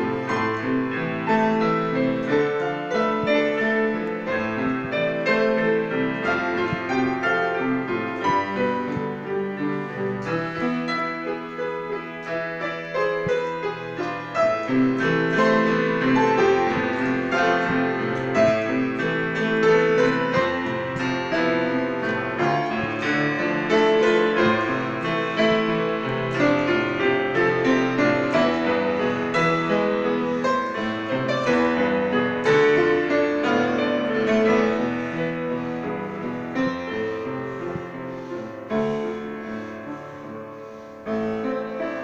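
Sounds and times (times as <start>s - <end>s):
piano duet: 0.0s - 42.0s.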